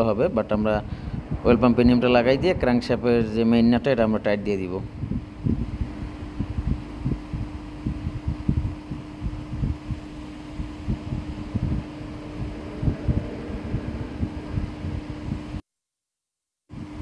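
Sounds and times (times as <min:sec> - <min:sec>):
low rumbling: 0:00.0 - 0:15.6
steady low hum: 0:00.0 - 0:15.6, 0:16.7 - 0:17.0.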